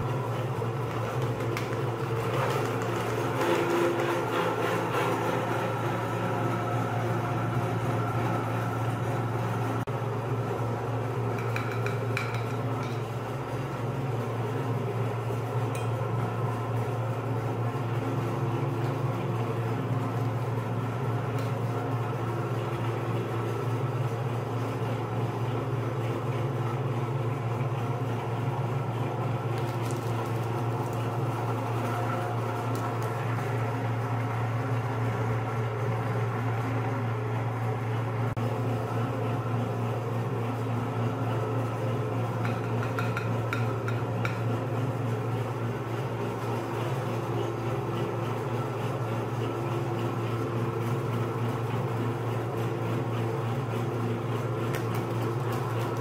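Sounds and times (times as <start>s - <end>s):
meat grinder motor humming: 0.0s - 56.0s.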